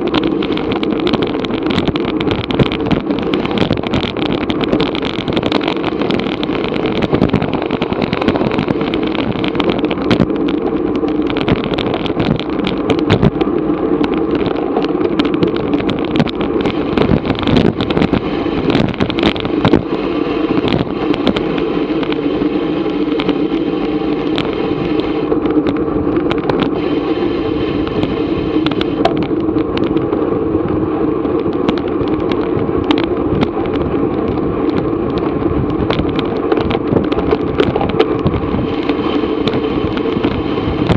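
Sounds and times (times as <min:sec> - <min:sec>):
bicycle road rumble: 0:00.0 - 0:40.9
sharp clicks and rattles: 0:00.0 - 0:40.9
wind: 0:00.0 - 0:40.9.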